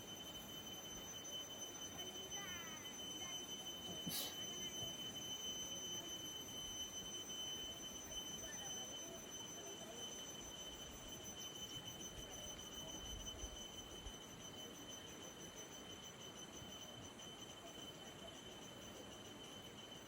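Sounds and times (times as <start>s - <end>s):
high-pitched insect drone: 0.0s - 20.0s
faint low background murmur: 1.8s - 20.0s.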